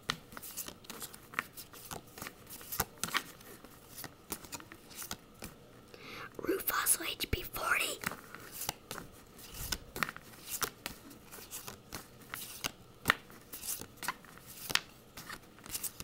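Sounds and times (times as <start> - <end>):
cards clicking and swishing: 0.0 - 5.6, 8.0 - 16.0.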